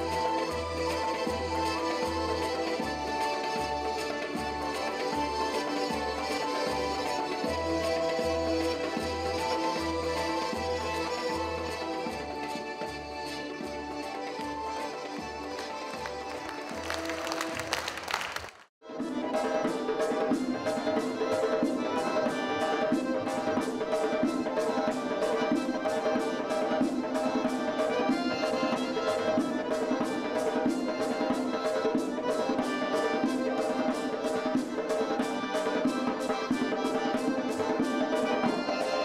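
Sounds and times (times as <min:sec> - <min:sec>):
accordion playing folk tune: 0:00.0 - 0:39.0.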